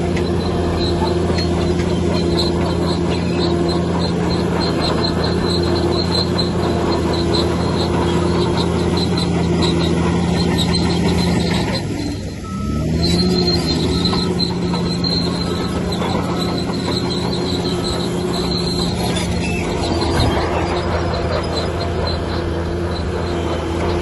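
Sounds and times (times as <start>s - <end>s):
diesel engine running under load: 0.0s - 24.0s
short high squeaks: 0.0s - 24.0s.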